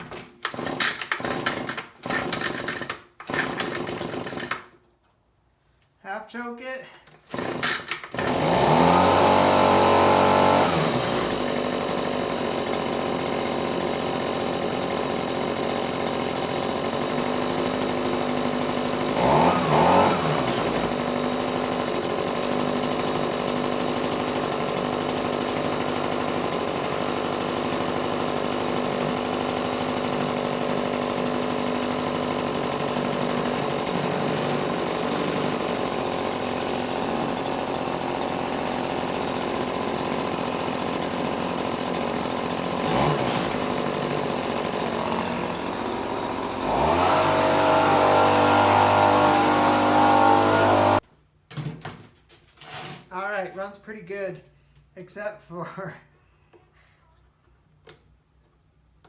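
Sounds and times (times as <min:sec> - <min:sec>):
leaf blower engine: 0:00.0 - 0:04.5, 0:07.3 - 0:51.0.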